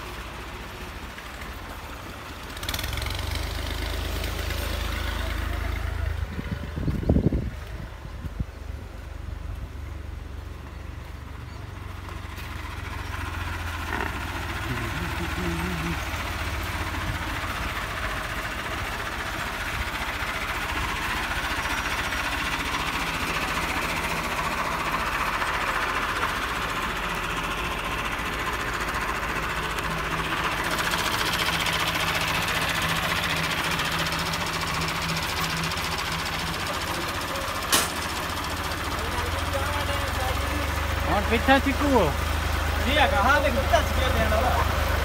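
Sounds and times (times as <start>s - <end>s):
diesel tractor engine knocking: 0.0s - 45.0s.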